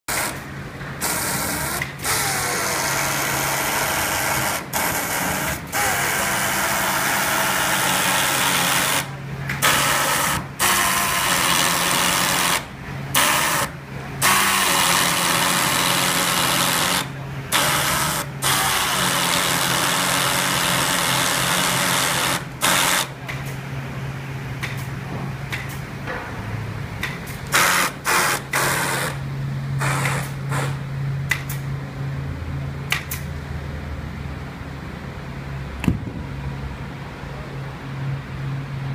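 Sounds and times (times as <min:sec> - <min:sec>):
machinery low hum: 0:00.1 - 0:38.9.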